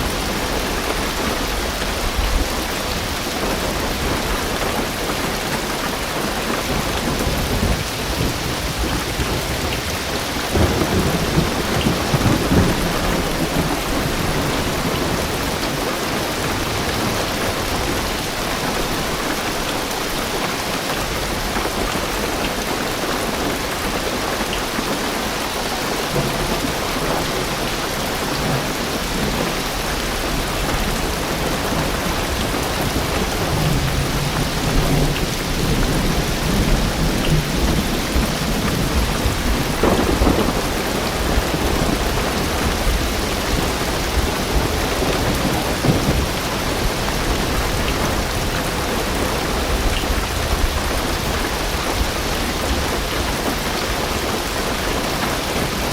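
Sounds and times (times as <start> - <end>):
low rumble of thunder: 0.0 - 20.0, 26.0 - 55.9
heavy rain on a car roof: 0.0 - 55.9.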